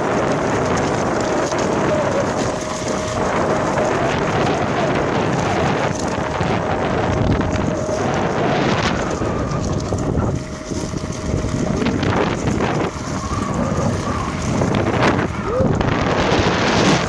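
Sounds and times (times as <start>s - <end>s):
electric motor whine: 0.0s - 17.0s
skateboard wheels rumbling on dirt: 0.0s - 17.0s
wind buffeting microphone: 0.0s - 17.0s.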